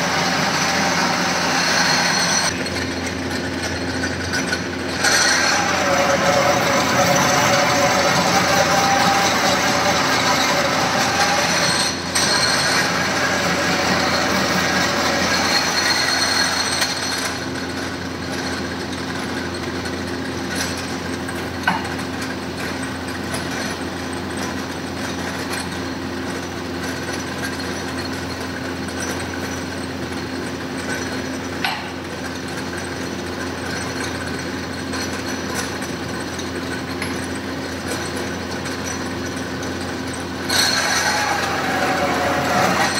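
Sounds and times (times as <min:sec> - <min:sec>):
drill press drilling metal: 0:00.0 - 0:42.9.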